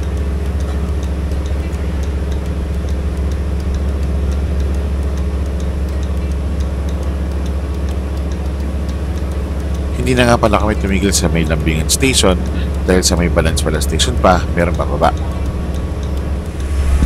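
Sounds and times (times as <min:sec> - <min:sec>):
boat engine droning: 0:00.0 - 0:17.0
faint high ticking: 0:00.0 - 0:17.0.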